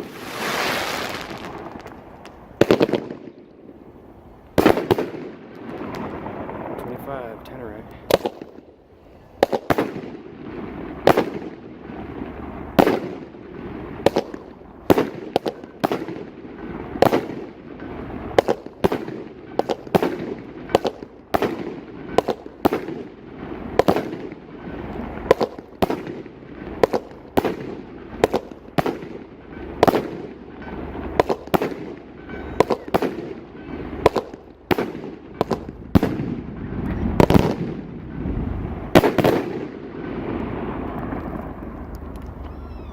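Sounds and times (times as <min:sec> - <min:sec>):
fireworks bangs: 0:00.0 - 0:03.9, 0:04.5 - 0:08.8, 0:09.4 - 0:42.9
fireworks crackling: 0:00.0 - 0:42.9.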